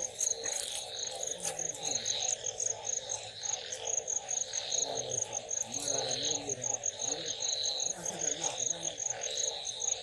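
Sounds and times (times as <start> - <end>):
chorus of night insects: 0.0 - 10.0
crickets chirping: 0.0 - 10.0.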